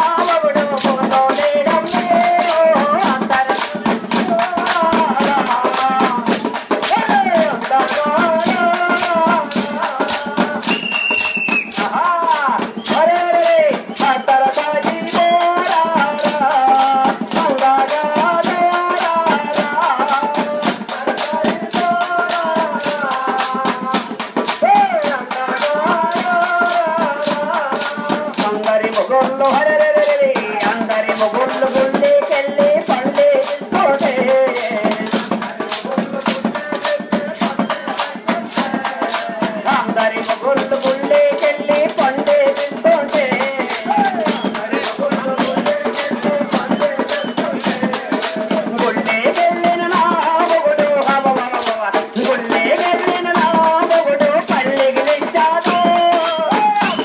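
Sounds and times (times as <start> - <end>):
jingling hand percussion: 0.0 - 57.0.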